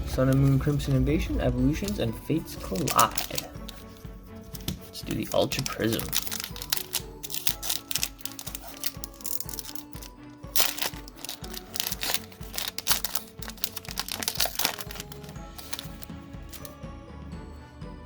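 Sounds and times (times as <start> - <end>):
background music with steady beat: 0.0 - 18.0
foil pack crinkling and tearing: 1.7 - 4.0, 4.6 - 16.8.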